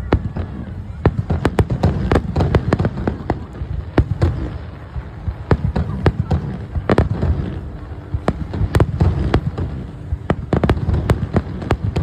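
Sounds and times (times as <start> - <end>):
fireworks bangs and crackles: 0.0 - 12.0
steady low rumble: 0.0 - 12.0.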